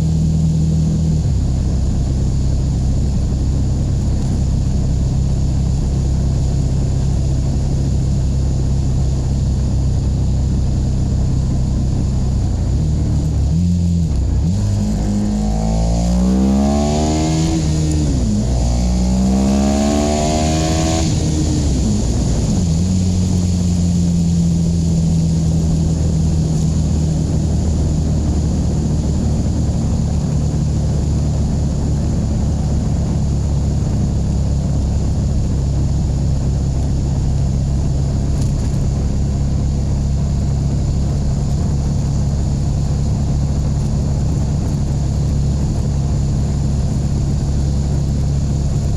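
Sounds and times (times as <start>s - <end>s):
motorcycle engine accelerating: 0.0s - 48.9s
wind noise: 0.0s - 48.9s.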